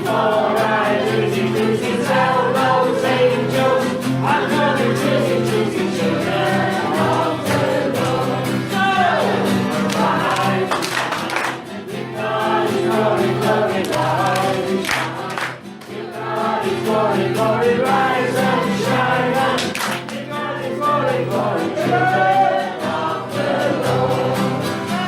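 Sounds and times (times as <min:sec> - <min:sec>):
group singing: 0:00.0 - 0:25.0.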